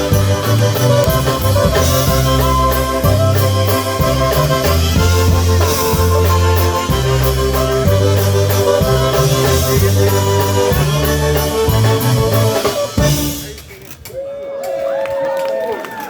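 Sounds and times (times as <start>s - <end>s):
bass line: 0.0s - 13.6s
polka band playing: 0.0s - 14.0s.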